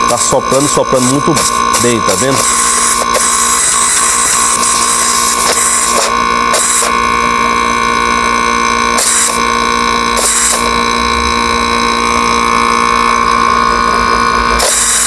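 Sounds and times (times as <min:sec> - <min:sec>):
compressor humming and whining: 0:00.0 - 0:15.0.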